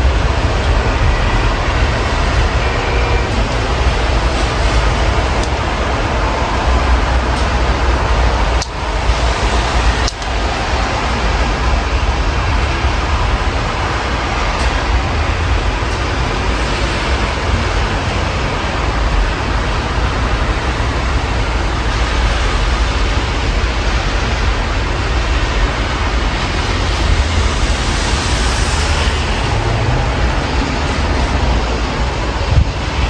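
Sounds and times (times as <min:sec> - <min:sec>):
city traffic rumble: 0:00.0 - 0:33.0
rain hiss: 0:00.0 - 0:33.0.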